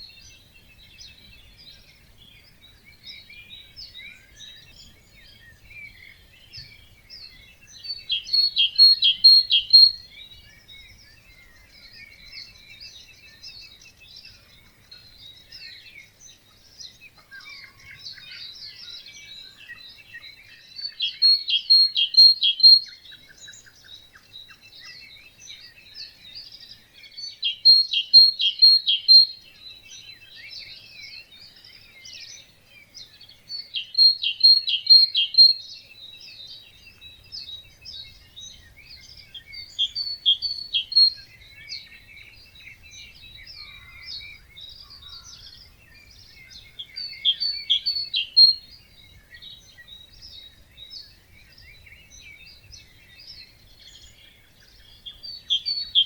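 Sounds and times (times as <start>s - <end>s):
bird singing short loud song: 0.0s - 56.0s
songbirds dawn chorus: 0.0s - 56.0s.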